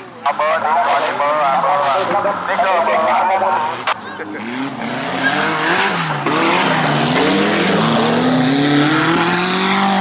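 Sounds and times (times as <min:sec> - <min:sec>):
buggy engine revving: 0:00.4 - 0:10.0.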